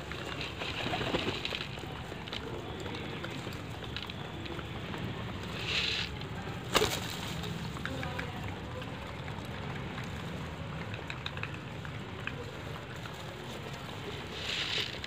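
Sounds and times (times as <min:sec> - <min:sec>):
pigeon wings flapping: 0:00.0 - 0:15.0
pigeons pecking grain clicks: 0:00.0 - 0:15.0.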